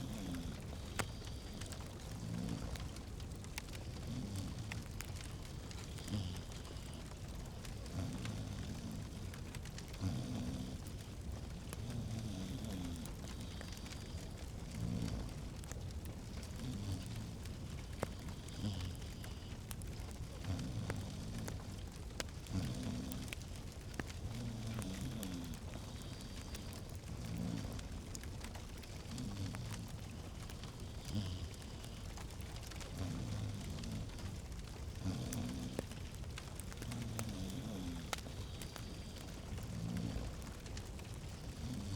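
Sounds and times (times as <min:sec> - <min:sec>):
fireplace fire crackling: 0:00.0 - 0:41.9.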